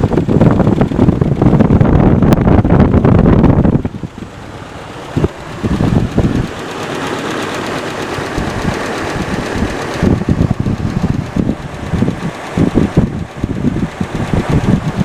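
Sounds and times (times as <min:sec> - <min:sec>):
engine idling with rhythmic knocking: 0:00.0 - 0:15.0.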